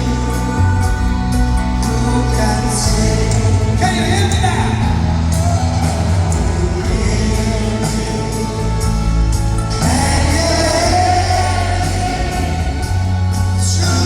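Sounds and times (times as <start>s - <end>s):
person singing: 0.0s - 9.1s, 9.7s - 14.0s
live band playing a ballad: 0.0s - 14.0s.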